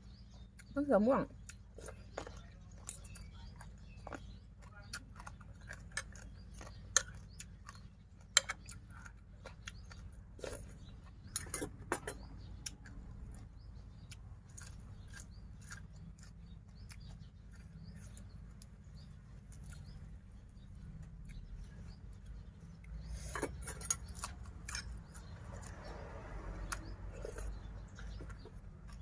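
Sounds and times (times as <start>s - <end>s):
chewing and crunching: 0.0s - 29.0s.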